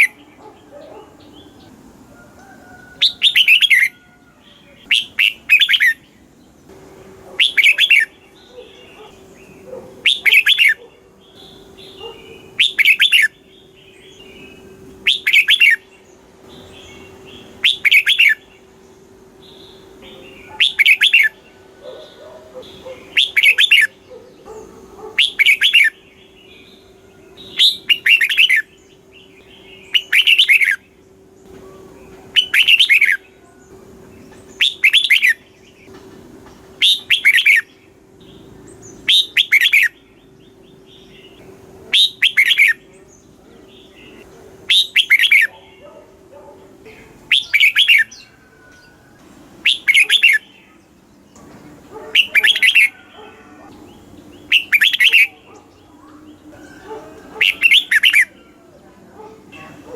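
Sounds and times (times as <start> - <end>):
bird singing bright phrases: 0.0 - 59.9
faint steady hum: 0.0 - 59.9.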